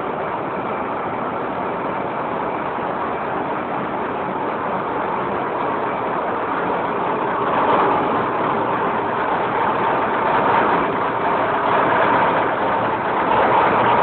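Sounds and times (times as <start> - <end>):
faint steady whine: 0.0 - 14.0
marine diesel engine drone: 0.0 - 14.0.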